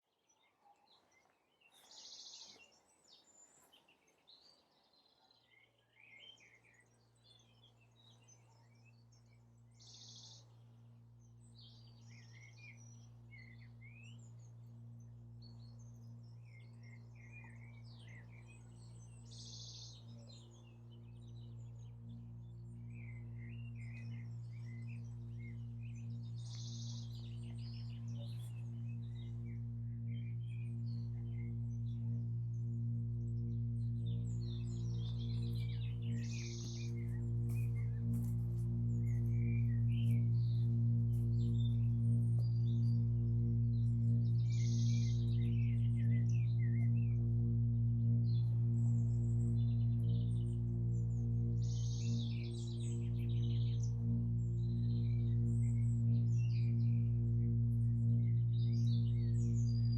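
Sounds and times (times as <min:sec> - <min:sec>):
small birds chirping: 0:00.2 - 0:59.9
low musical drone: 0:06.0 - 0:59.9.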